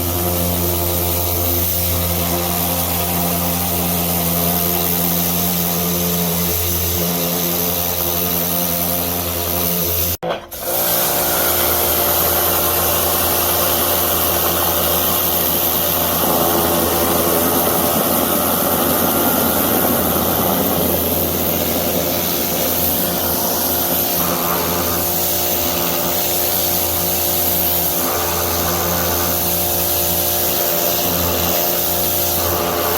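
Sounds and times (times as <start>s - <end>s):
high-pressure spray hissing: 0.0s - 32.9s
pressure washer motor humming: 0.0s - 32.9s.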